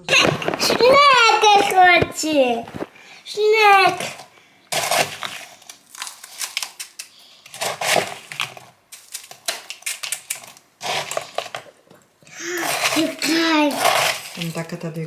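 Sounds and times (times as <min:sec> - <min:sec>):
plastic scoop crunching ice: 0:00.1 - 0:02.8, 0:03.4 - 0:11.7, 0:12.4 - 0:15.0.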